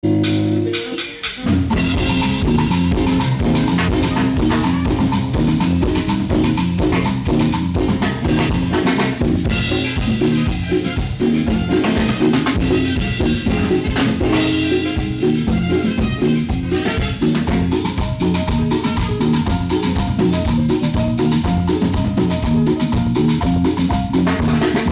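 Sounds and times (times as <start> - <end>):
bass: 0.0 - 24.9
drum kit: 0.0 - 24.9
live band dance music: 0.0 - 24.9.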